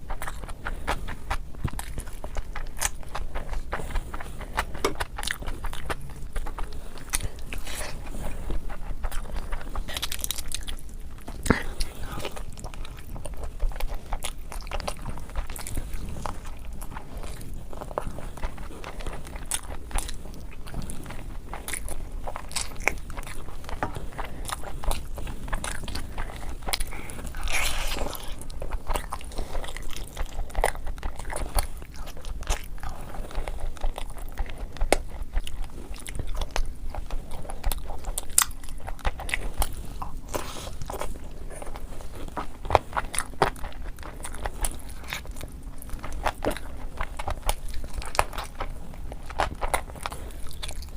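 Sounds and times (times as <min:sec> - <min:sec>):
crunchy food being chewed: 0:00.0 - 0:50.9.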